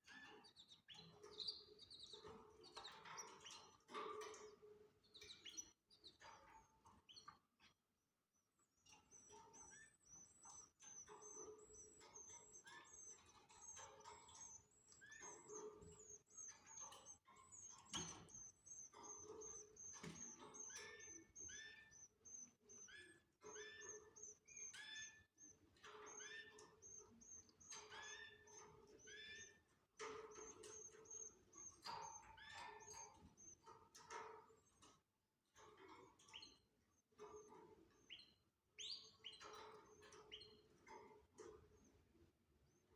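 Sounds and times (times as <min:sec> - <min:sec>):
canaries chirping: 0:00.0 - 0:42.9.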